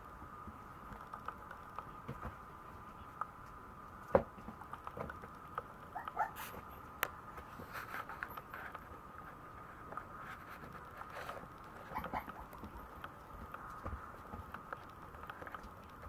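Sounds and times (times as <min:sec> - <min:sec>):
faint steady hum: 0:00.0 - 0:16.0
puppy paws pattering on wood: 0:00.4 - 0:16.0.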